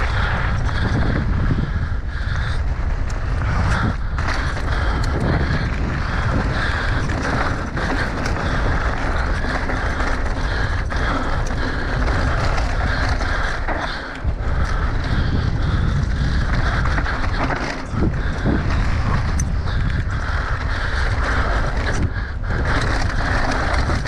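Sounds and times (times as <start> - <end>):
bike clicks and rattles: 0.0 - 24.0
wind buffeting the microphone: 0.0 - 24.0.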